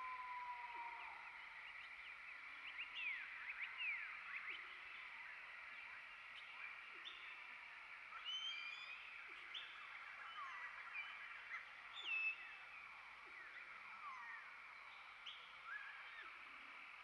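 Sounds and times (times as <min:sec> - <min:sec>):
background birdsong hum: 0:00.0 - 0:17.0.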